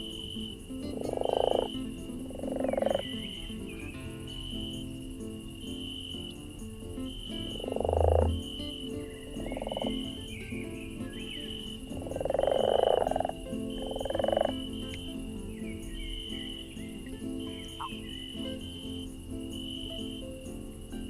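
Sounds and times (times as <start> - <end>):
frog croaking: 0.0 - 20.0
high insect chirp: 0.0 - 21.0.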